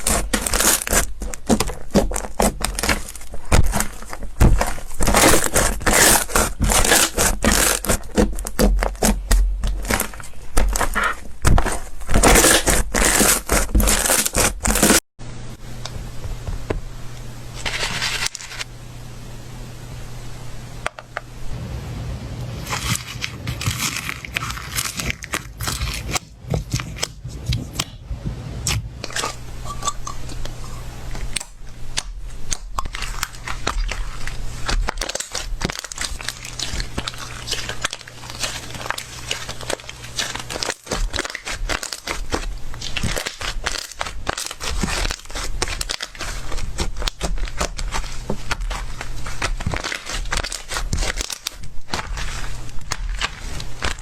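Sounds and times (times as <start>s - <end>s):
slime crackling and popping: 0.0s - 15.0s, 22.6s - 27.9s, 30.3s - 54.0s.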